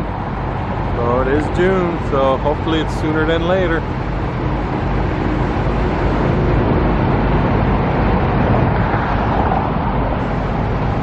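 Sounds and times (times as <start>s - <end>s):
vehicle rumble with hiss: 0.0s - 11.0s.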